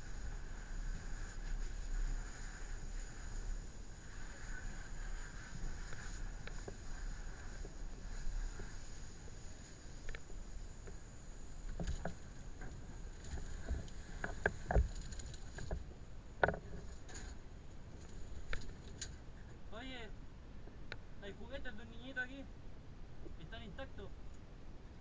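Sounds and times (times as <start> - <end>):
low background noise: 0.0 - 25.0.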